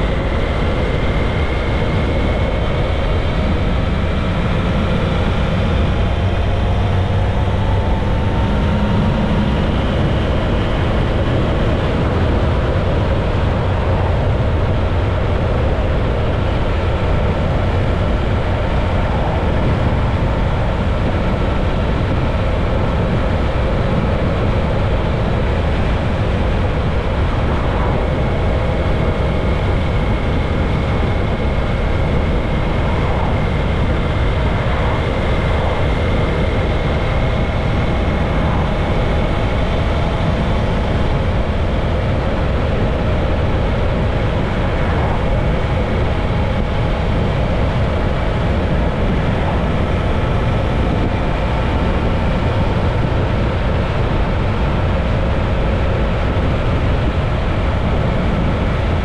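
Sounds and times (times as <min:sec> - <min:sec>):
faint steady whine: 0:00.0 - 0:59.0
motorcycle engine and tyre noise: 0:00.0 - 0:59.0
wind rushing over microphone: 0:00.0 - 0:59.0.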